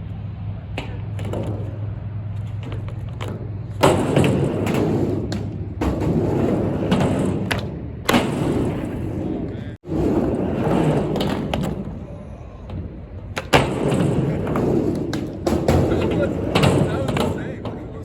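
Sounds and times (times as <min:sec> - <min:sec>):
skateboard wheels rolling: 0:00.3 - 0:18.0
skateboard thuds: 0:00.7 - 0:18.0.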